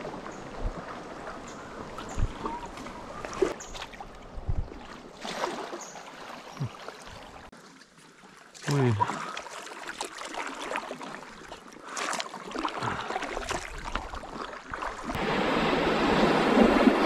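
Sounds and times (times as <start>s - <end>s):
paddle splashing and dripping: 0.0s - 15.2s
rushing rapid water: 0.0s - 17.0s.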